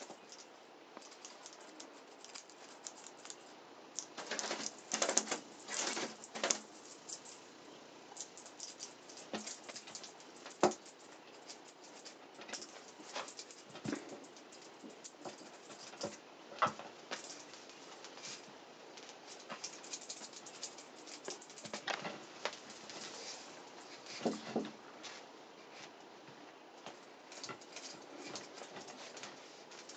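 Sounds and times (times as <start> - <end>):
rustling: 0.0 - 26.1, 26.8 - 29.9
cat scuffling and ticking: 0.0 - 29.9.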